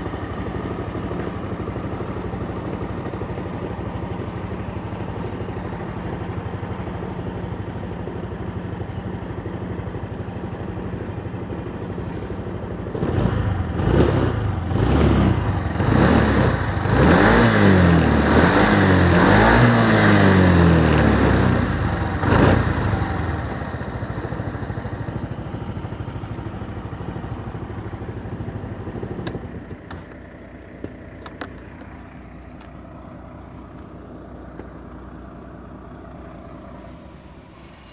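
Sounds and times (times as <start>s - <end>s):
scooter engine idling and revving: 0.0s - 37.9s.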